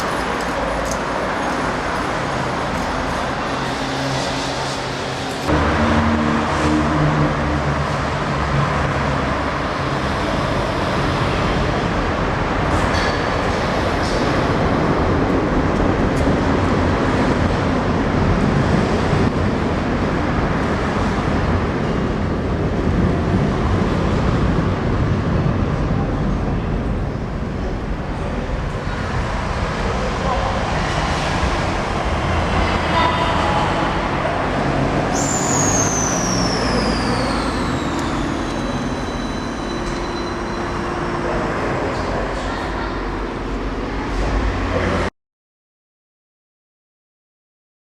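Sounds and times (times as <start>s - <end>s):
train rumbling on rails: 0.0s - 45.1s.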